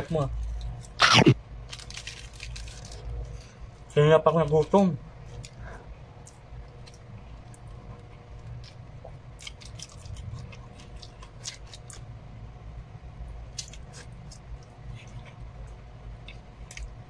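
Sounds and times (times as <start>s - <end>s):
people chewing food: 0.0s - 12.2s, 13.2s - 17.0s
low steady hum: 0.0s - 17.0s.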